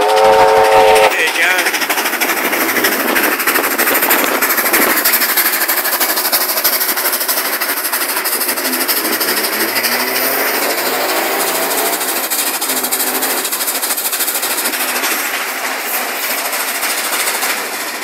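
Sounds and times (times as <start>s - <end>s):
steam locomotive exhaust beating: 0.0s - 18.0s.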